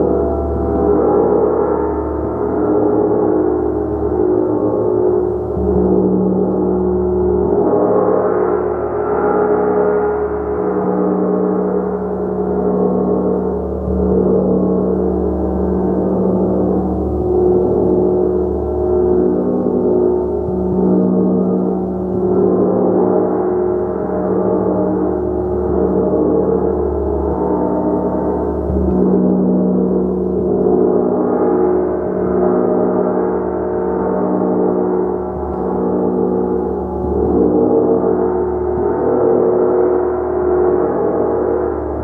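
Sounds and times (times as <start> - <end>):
large gong resonating: 0.0 - 42.0.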